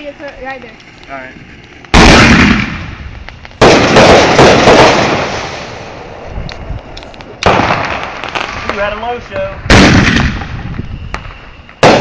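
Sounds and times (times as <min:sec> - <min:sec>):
fireworks booming: 0:00.0 - 0:12.0
fireworks crackling: 0:00.0 - 0:12.0.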